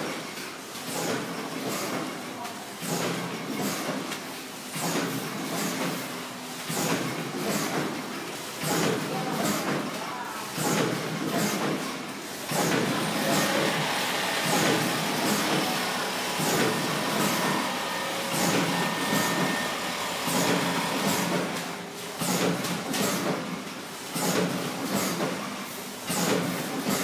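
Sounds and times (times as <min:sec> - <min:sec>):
packing machine humming: 0:04.7 - 0:27.0.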